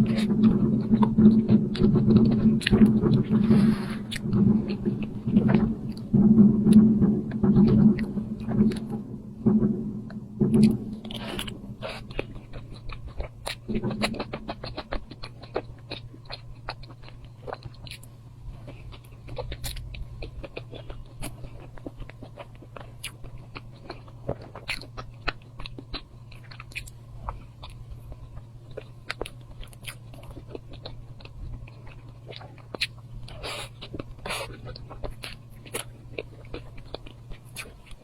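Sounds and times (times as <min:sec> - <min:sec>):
low hum: 0:00.0 - 0:38.0
person chewing food: 0:00.0 - 0:38.0.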